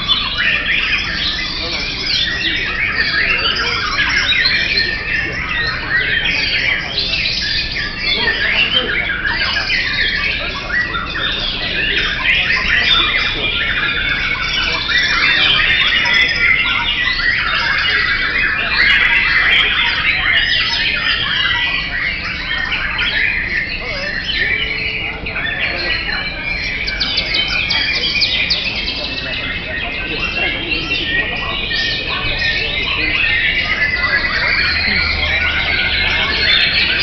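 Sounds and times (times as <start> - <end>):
birds singing and chattering: 0.0 - 37.0.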